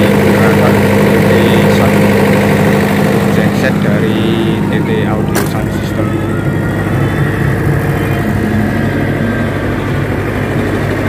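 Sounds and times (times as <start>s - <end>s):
generator humming: 0.0s - 11.0s.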